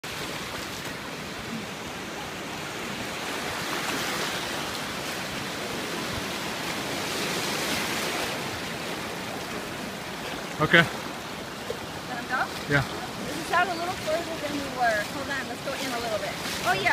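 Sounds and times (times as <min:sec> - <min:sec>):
ocean surf rushing: 0:00.0 - 0:16.9.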